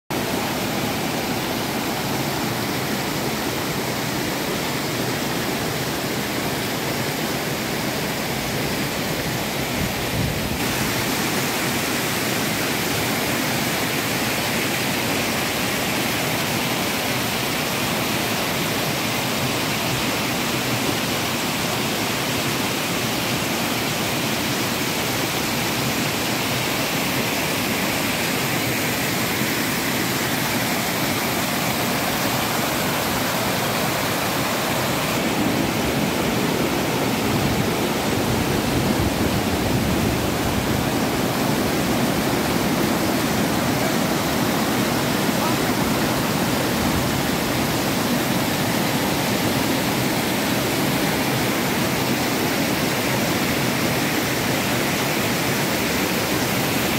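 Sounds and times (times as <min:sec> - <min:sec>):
stream water rushing over rocks: 0:00.1 - 0:56.9.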